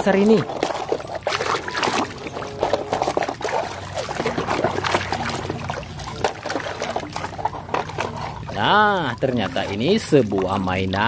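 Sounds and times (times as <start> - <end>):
water pouring and trickling: 0.0 - 11.0.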